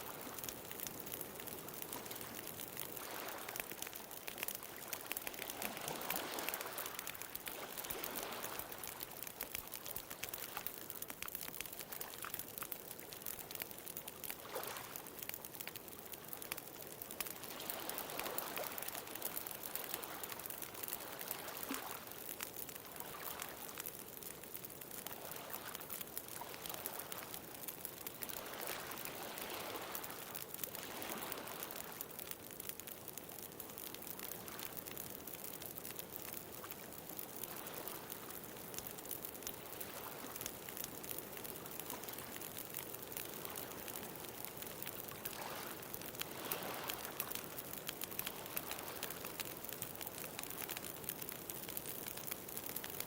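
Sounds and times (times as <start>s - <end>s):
bonfire crackling: 0.0s - 53.0s.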